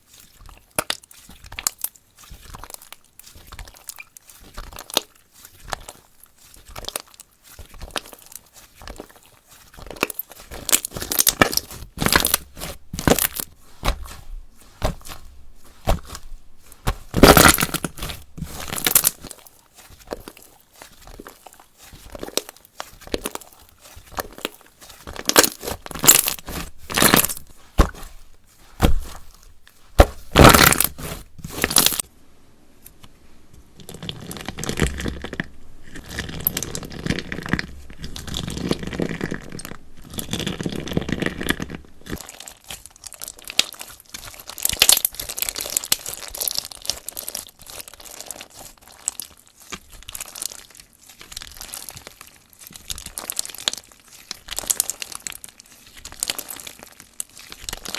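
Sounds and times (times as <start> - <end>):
hands squishing slime: 0.0 - 32.0, 42.1 - 57.9.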